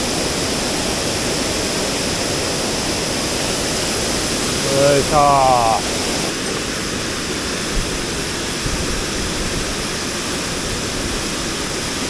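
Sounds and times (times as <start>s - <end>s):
rushing mountain stream: 0.0s - 12.0s.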